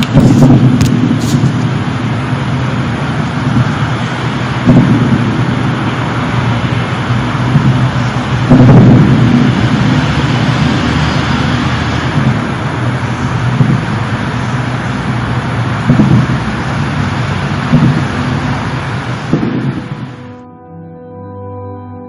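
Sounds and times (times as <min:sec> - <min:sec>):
steady rushing noise: 0:00.0 - 0:20.4
low rumbling drone: 0:00.0 - 0:22.0.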